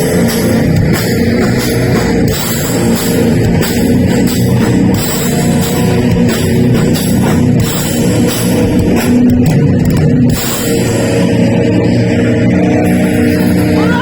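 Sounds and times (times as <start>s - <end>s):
drum kit: 0.0s - 14.0s
electric guitar: 0.0s - 14.0s.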